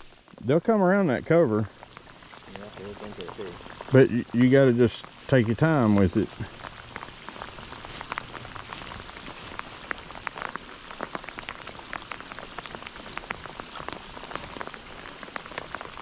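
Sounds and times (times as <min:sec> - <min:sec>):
raindrops ticking: 0:00.0 - 0:16.0
steady rain hiss: 0:00.0 - 0:16.0.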